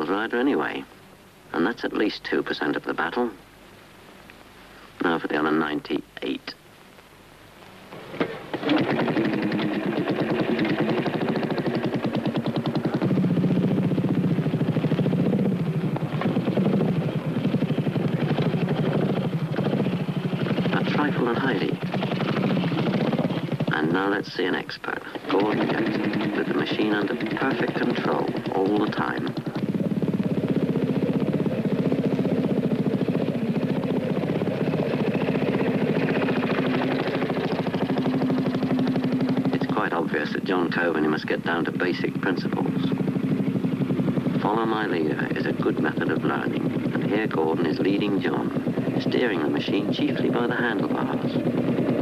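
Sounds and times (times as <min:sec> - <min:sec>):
motorcycle engine at low revs: 0:07.9 - 0:24.2, 0:24.9 - 0:52.0.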